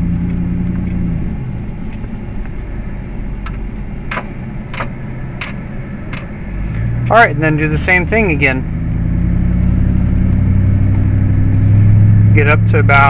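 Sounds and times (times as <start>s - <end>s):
engine humming: 0.0s - 13.0s
low road rumble: 0.0s - 13.0s.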